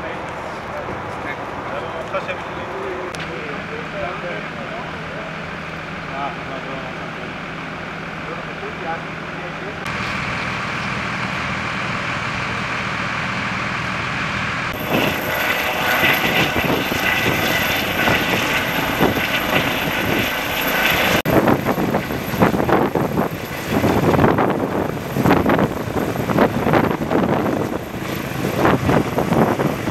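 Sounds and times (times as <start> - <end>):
helicopter flying overhead: 0.0 - 29.9
vehicle engine noise: 0.0 - 29.9.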